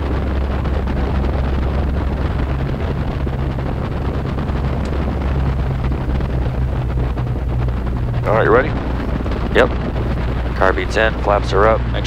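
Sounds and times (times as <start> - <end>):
propeller engine droning: 0.0 - 12.0.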